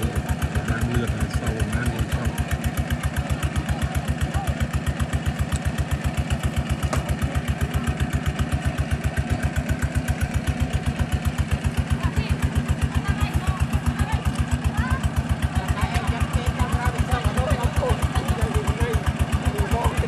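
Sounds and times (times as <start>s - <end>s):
water pump engine running: 0.0s - 20.0s.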